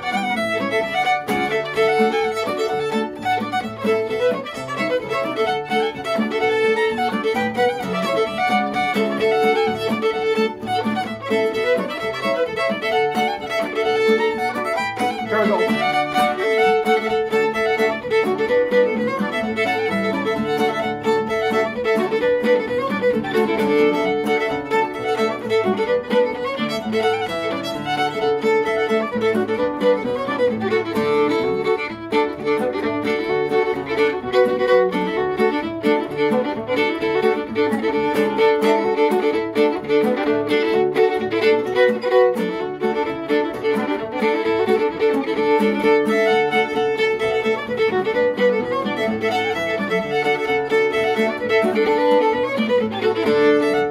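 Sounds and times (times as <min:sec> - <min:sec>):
acoustic guitar strumming chords: 0:00.0 - 0:53.8
fiddle playing a reel: 0:00.0 - 0:53.9.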